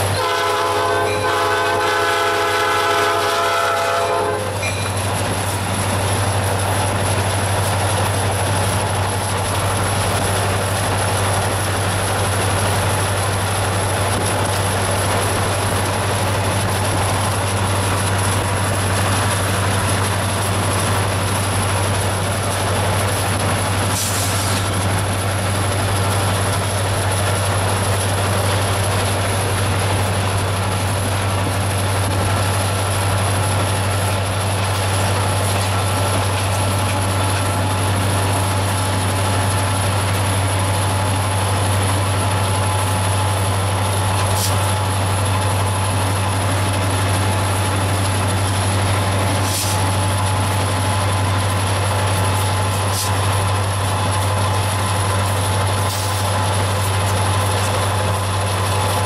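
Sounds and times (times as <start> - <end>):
diesel locomotive droning: 0.0 - 59.0.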